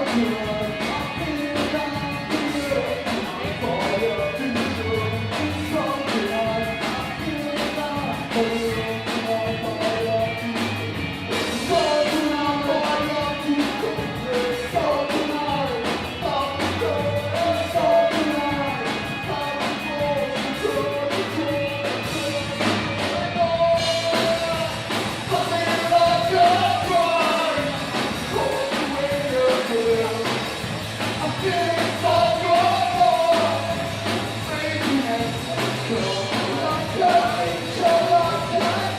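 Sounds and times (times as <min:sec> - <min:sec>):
lead vocalist singing: 0:00.0 - 0:38.9
rock band playing: 0:00.0 - 0:38.9.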